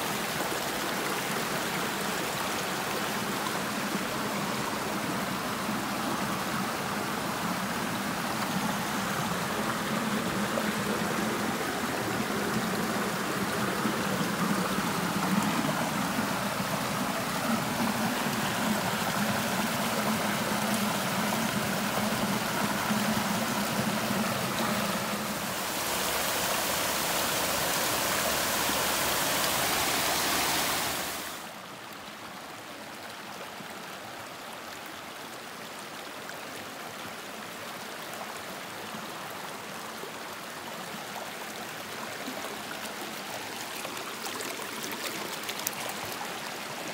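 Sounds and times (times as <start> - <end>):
stream rushing over stones: 0.0 - 46.9.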